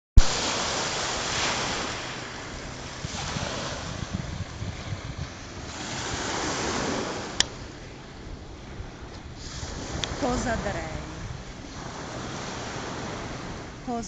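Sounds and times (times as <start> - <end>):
waves on a pebble beach: 0.2 - 14.0
wind rumbling on microphone: 0.2 - 14.0.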